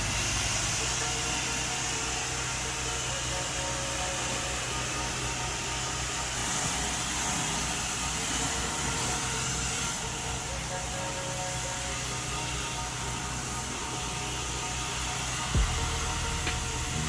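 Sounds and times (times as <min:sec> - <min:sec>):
high-pressure water spray hiss: 0:00.0 - 0:17.0
pressure washer engine drone: 0:00.0 - 0:17.0.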